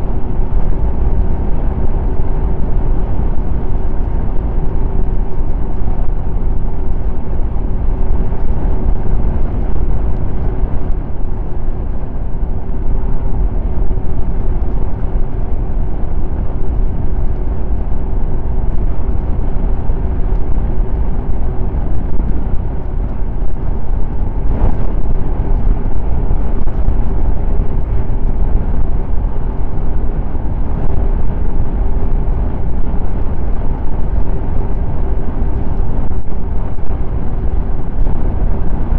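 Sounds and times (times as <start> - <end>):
snowmobile engine drone: 0.0 - 38.9.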